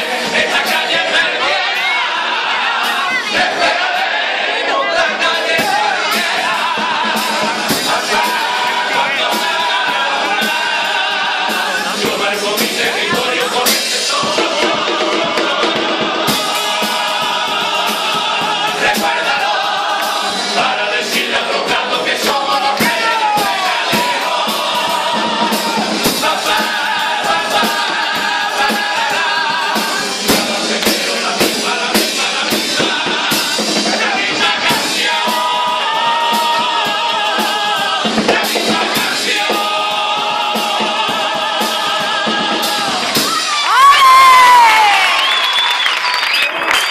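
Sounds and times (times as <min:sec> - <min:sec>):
steady percussion beat: 0:00.0 - 0:45.2
troupe singing in chorus: 0:00.0 - 0:45.6.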